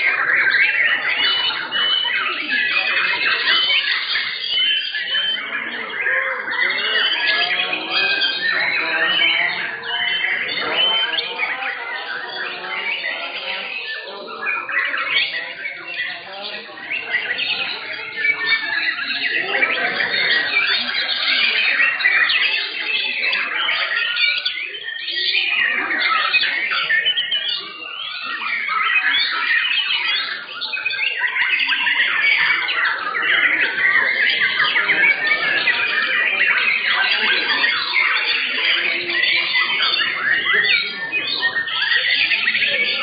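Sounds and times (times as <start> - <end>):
birds singing whistles and chirps: 0.0 - 43.0.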